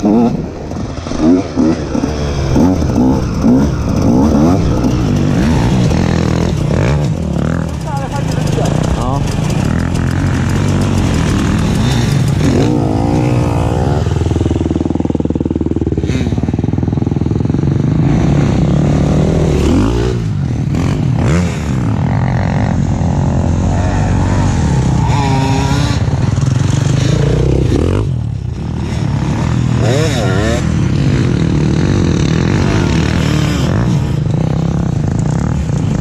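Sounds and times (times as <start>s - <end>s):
motocross engine revving: 0.0s - 36.0s.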